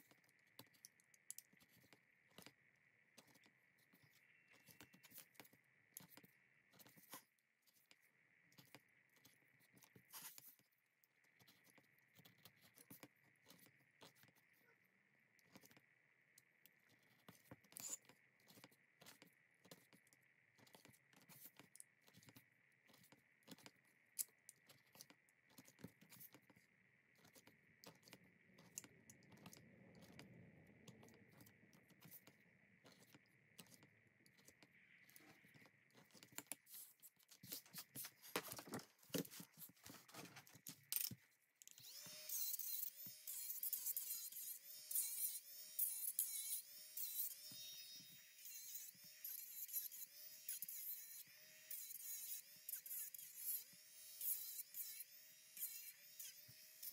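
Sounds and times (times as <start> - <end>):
leather worked by hand: 0.0 - 56.9.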